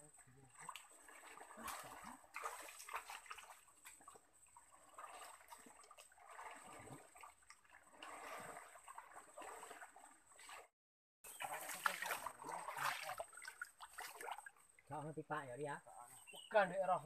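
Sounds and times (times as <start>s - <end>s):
stream trickling over rocks: 0.1s - 10.4s, 11.3s - 15.1s.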